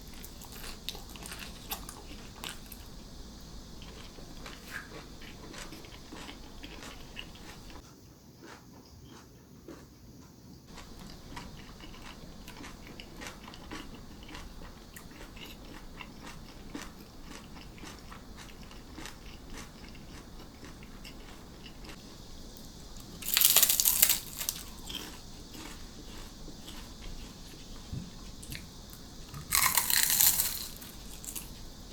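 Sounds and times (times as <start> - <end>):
chewing crisp food: 0.0 - 7.8, 8.4 - 10.0, 10.7 - 31.9.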